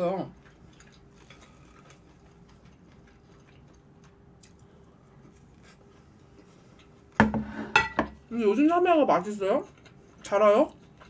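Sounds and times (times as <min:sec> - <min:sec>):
quiet chewing: 0:00.0 - 0:07.2, 0:09.3 - 0:11.0.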